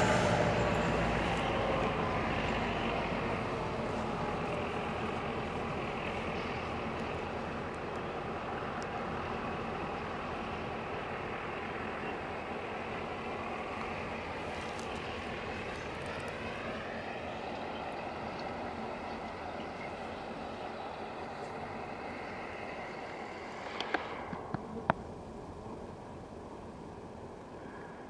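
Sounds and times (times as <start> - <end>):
diesel locomotive engine running: 0.0 - 28.0.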